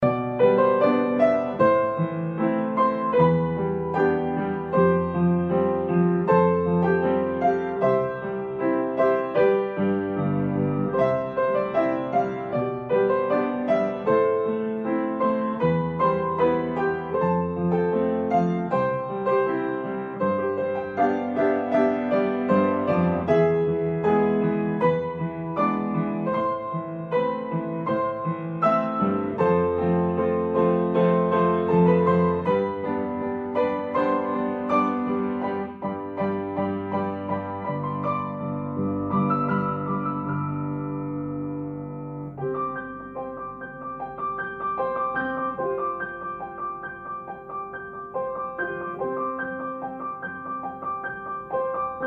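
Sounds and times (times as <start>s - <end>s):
gentle piano music: 0.0s - 52.0s.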